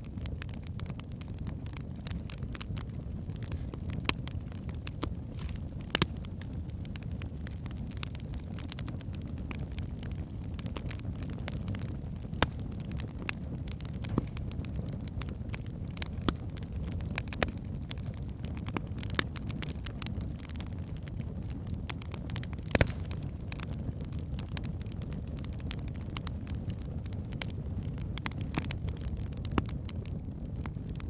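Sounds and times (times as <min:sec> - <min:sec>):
low rumble of flames: 0:00.0 - 0:31.0
wood fire crackling and popping: 0:00.0 - 0:31.0.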